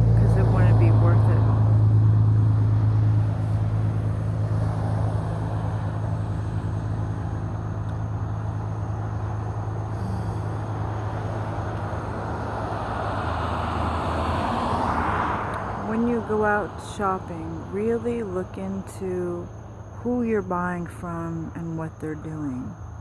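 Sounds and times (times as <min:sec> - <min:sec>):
low vehicle hum: 0:00.0 - 0:23.0.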